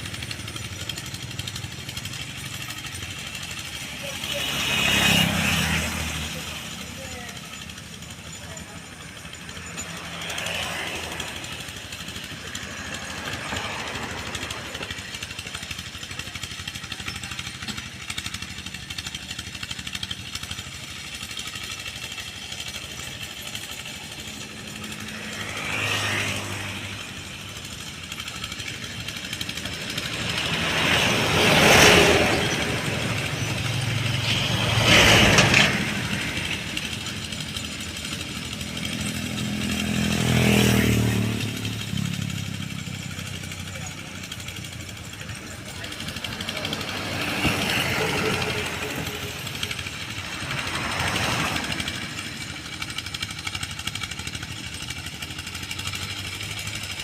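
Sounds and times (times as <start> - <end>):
old tractor engine running: 0.0 - 57.0.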